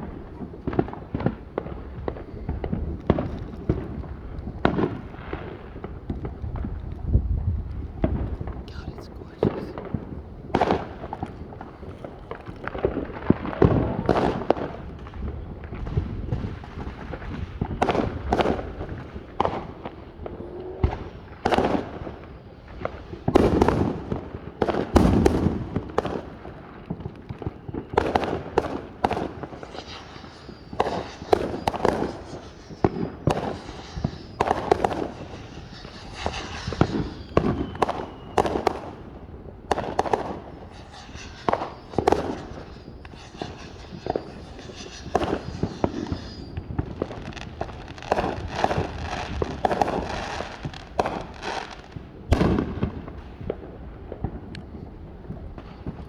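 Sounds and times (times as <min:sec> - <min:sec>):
fireworks whistles: 0:00.0 - 0:07.2, 0:08.0 - 0:56.0
fireworks bangs and crackles: 0:00.0 - 0:56.0.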